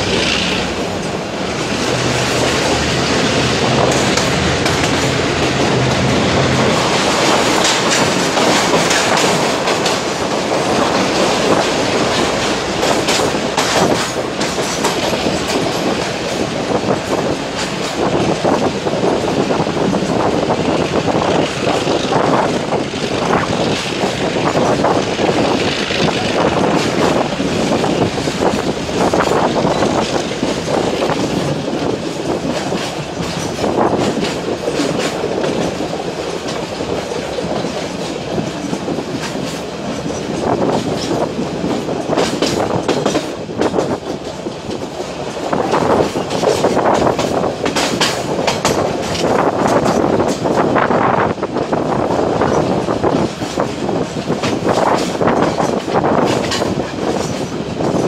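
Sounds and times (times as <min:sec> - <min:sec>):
train wagons rumbling: 0:00.0 - 0:58.0
wheels clacking over rail joints: 0:00.0 - 0:58.0.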